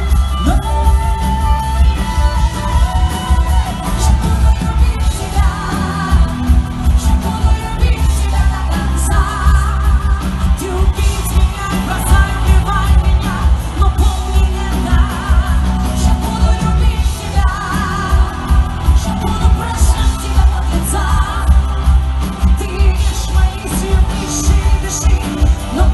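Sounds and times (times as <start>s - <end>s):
band with heavy bass: 0.0s - 25.9s
woman singing with vibrato: 0.0s - 25.9s.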